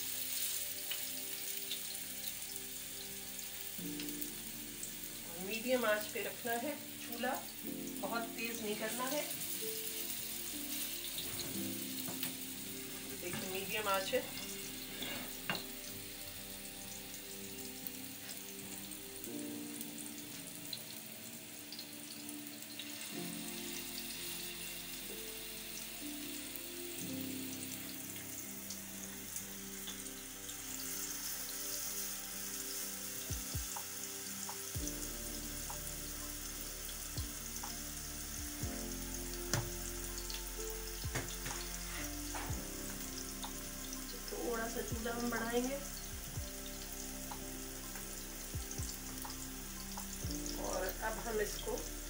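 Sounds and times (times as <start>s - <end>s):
electronic background music: 0.0s - 52.0s
meat patties sizzling in oil: 0.0s - 52.0s.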